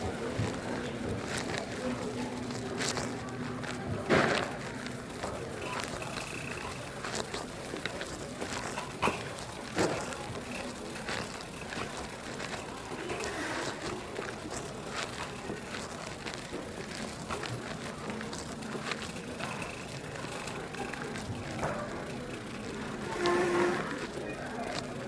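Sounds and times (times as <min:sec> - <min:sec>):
clicks and rustles: 0:00.0 - 0:25.0
grocery store background noise: 0:00.0 - 0:25.0.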